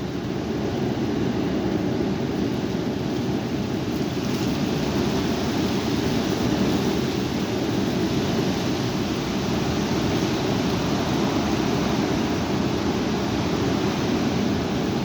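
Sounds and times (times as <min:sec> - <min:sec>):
high wind blowing: 0:00.0 - 0:15.0
wind rumble on microphone: 0:00.0 - 0:15.0.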